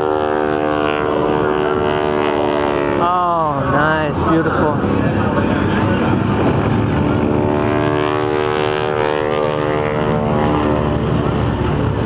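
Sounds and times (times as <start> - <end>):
propeller airplane flying past: 0.0 - 12.0
steady low rumble: 0.0 - 12.0.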